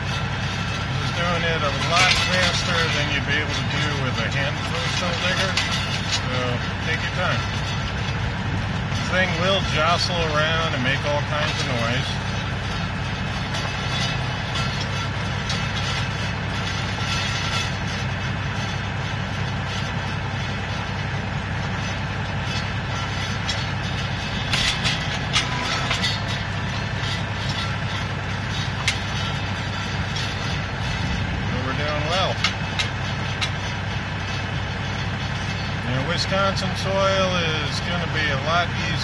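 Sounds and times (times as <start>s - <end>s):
auger rig rattling: 0.0s - 39.0s
tractor diesel engine running: 0.0s - 39.0s.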